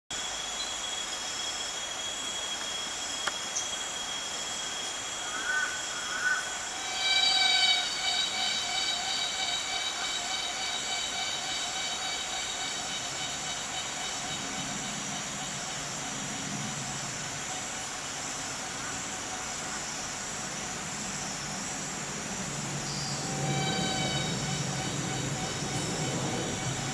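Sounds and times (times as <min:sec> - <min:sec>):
insect high-pitched drone: 0:00.1 - 0:26.9
whistle-like insect call: 0:00.2 - 0:26.9.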